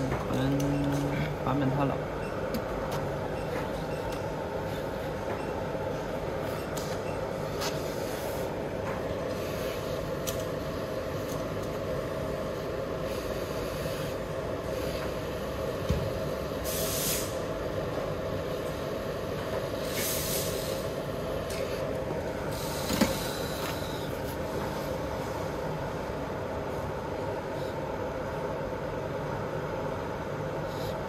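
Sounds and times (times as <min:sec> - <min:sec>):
steady running air noise: 0:00.0 - 0:31.0.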